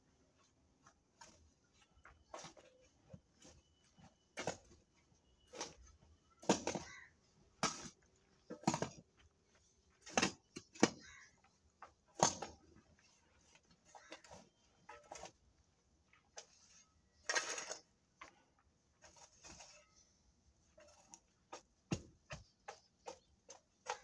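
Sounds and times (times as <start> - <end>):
hoe scraping dry soil: 1.0 - 9.1, 9.8 - 15.6, 16.2 - 24.0.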